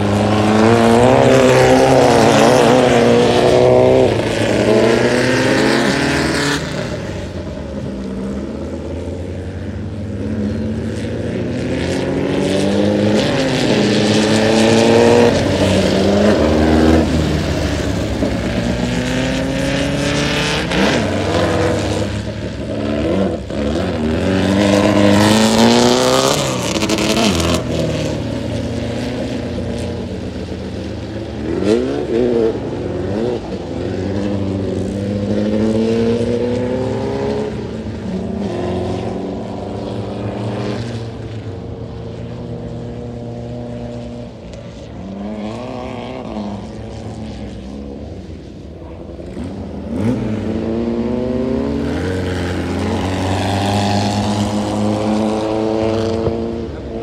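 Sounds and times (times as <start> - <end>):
buggy engines revving: 0.0 - 57.0.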